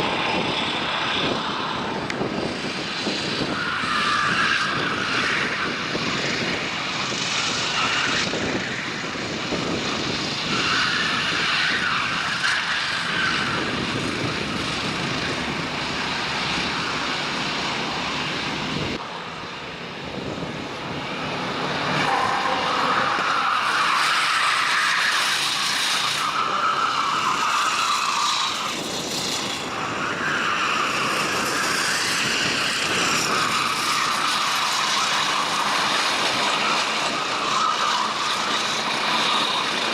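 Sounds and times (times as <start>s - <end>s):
kart engines running hard: 0.0s - 39.9s.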